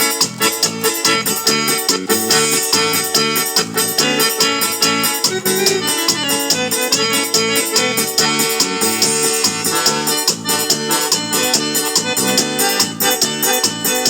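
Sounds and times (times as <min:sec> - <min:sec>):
accordion-like melody: 0:00.0 - 0:14.0
fast steady beat: 0:00.0 - 0:14.0.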